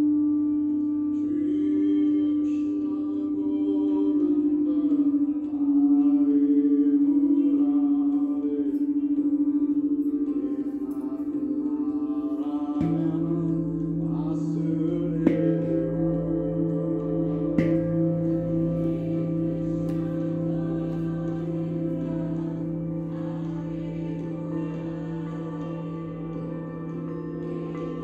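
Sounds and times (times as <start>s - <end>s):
singing bowls ringing: 0.0s - 28.0s.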